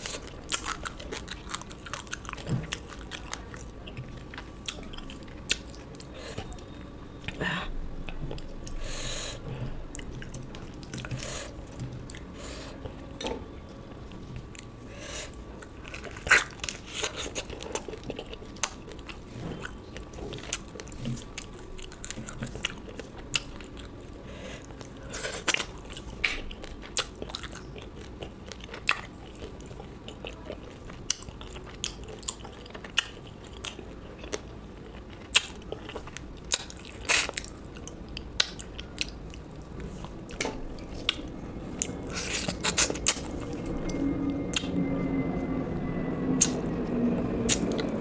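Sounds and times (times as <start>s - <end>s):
person chewing and crunching food: 0.0s - 44.8s, 46.4s - 46.6s, 47.5s - 48.0s.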